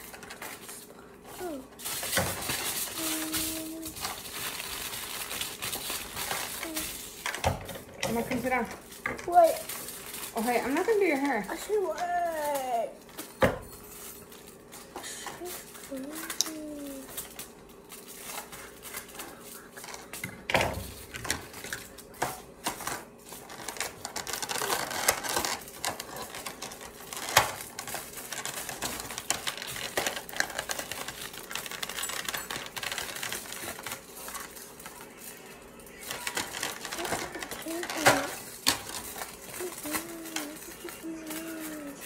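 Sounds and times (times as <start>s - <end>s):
plastic packaging crinkling: 0.0s - 42.0s.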